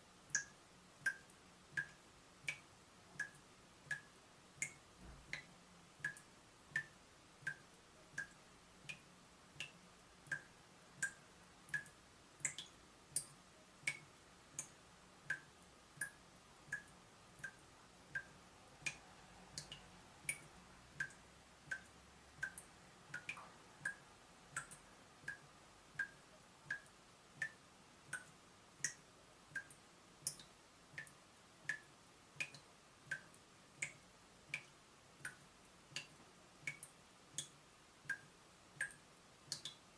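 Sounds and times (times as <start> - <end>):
water dripping from a tap: 0.3 - 39.9.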